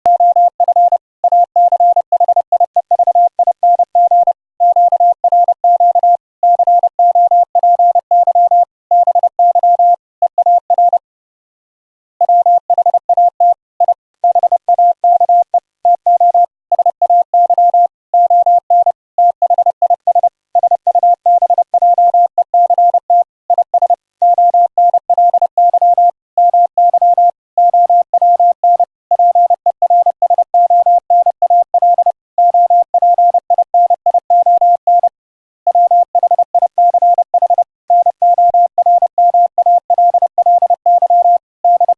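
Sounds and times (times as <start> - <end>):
morse code tone: 0.1 - 11.0, 12.2 - 41.9.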